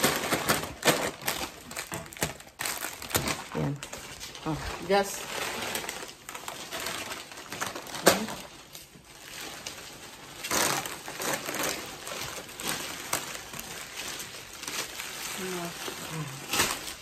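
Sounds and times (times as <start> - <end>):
plastic and foil bags crinkling: 0.0 - 17.0.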